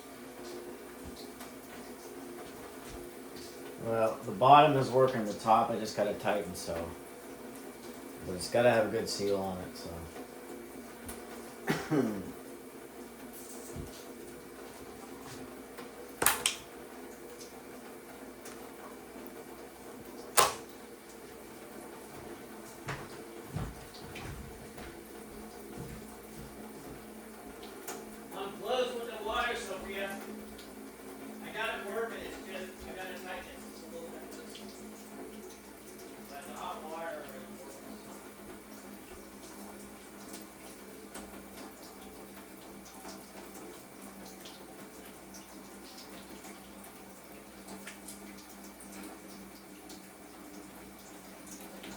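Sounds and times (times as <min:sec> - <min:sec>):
water running and spattering: 0:00.0 - 0:51.9.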